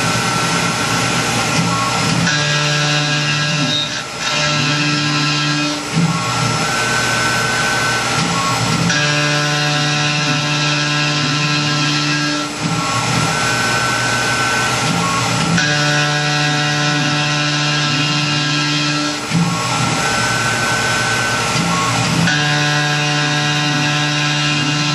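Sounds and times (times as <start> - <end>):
milling machine spindle whine: 0.0 - 24.9.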